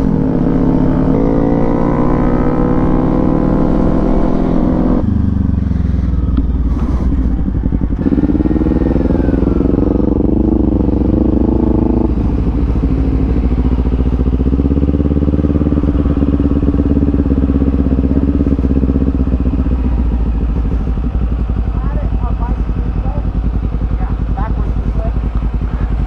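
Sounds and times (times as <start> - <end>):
low rumble: 0.0 - 26.0
motorcycle engine running: 0.0 - 26.0.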